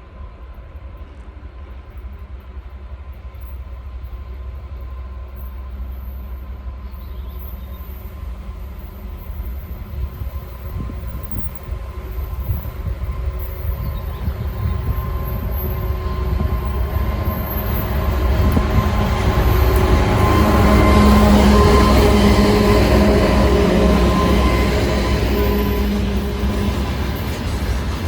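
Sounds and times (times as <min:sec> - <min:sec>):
diesel locomotive engine drone: 0:00.0 - 0:28.0
train rumble: 0:00.0 - 0:28.0.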